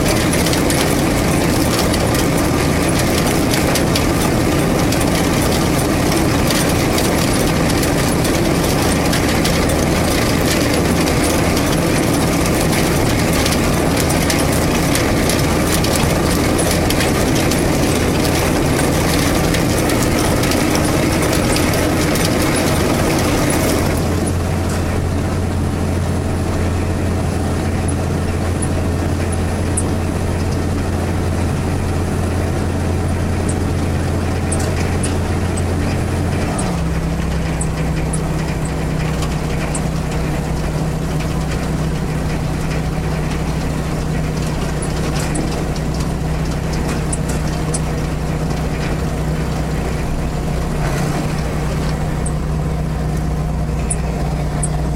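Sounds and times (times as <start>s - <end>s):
machinery rattling: 0.0s - 54.9s
tractor engine drone: 0.0s - 54.9s.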